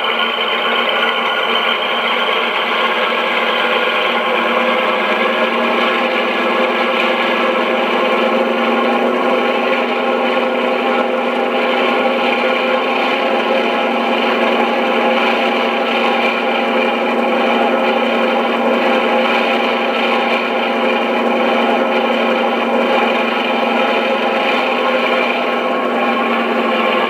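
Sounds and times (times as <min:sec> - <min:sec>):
diesel engine sound from small speaker: 0:00.0 - 0:27.0.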